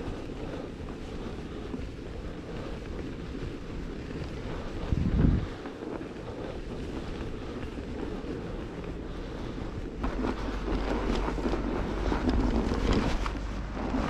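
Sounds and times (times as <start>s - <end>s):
crackling: 0.0s - 14.0s
wind buffeting microphone: 0.0s - 14.0s.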